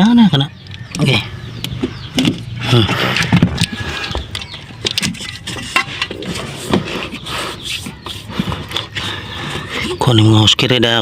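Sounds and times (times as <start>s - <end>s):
hand tools clicking and knocking: 0.6s - 9.8s.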